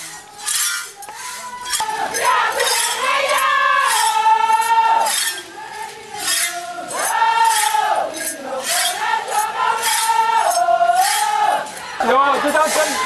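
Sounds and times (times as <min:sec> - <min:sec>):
women singing a chant: 0:00.0 - 0:13.0
sharp metallic clinks: 0:00.1 - 0:11.2.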